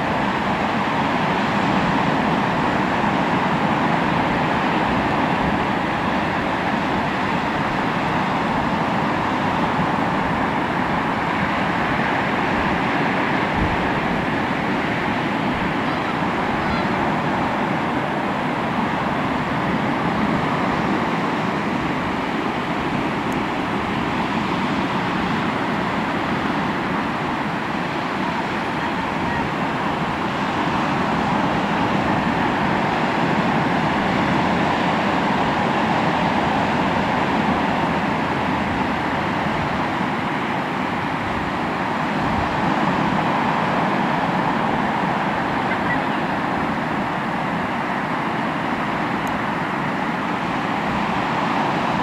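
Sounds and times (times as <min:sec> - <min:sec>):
sea waves washing ashore: 0:00.0 - 0:52.0.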